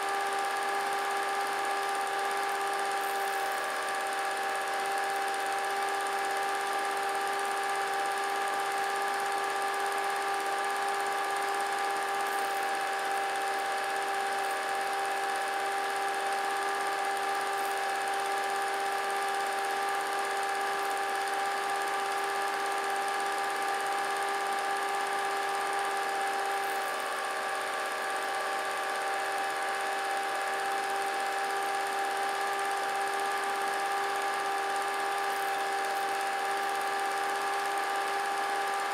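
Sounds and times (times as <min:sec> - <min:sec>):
film projector motor whine: 0:00.0 - 0:38.9.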